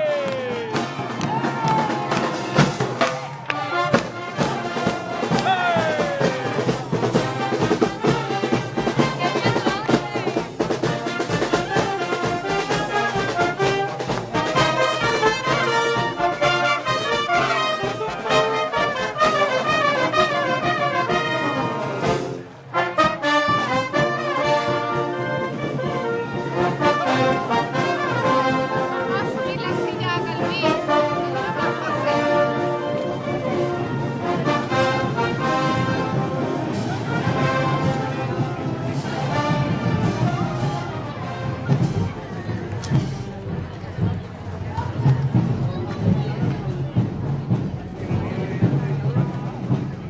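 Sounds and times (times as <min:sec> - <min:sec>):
brass band playing a march: 0:00.0 - 0:44.3
steady drum beat: 0:00.0 - 0:50.0.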